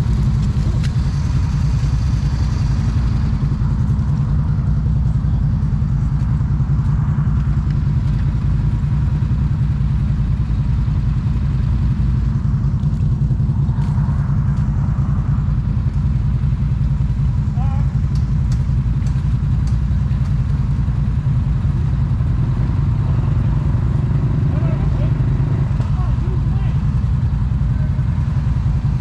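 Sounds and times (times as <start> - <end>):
atv engine droning: 0.0 - 29.0.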